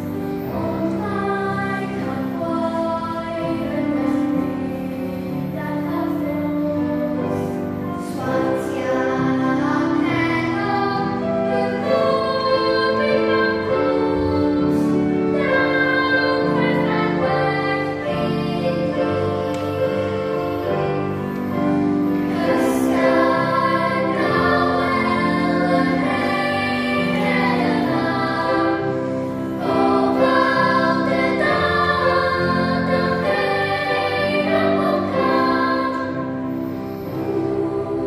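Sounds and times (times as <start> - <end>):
children's choir singing: 0.0 - 38.0.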